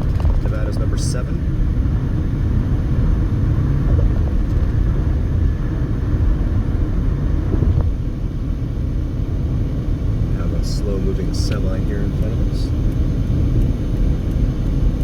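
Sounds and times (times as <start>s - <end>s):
car tyre and engine rumble: 0.0s - 15.0s.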